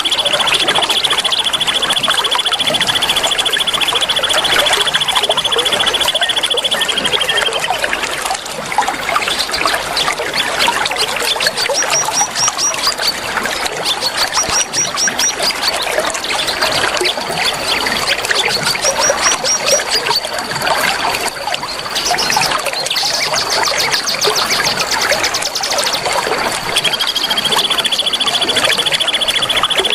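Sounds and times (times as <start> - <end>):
birds chirping and singing: 0.0 - 8.4, 9.0 - 29.9
trickle of running water: 0.0 - 29.9.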